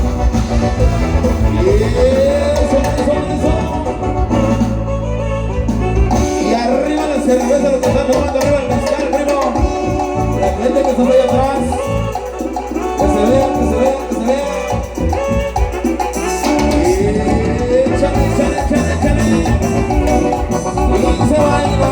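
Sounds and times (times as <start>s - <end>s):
heavy bass: 0.0s - 9.0s, 9.6s - 13.9s, 14.7s - 21.9s
live latin dance band: 0.0s - 21.9s.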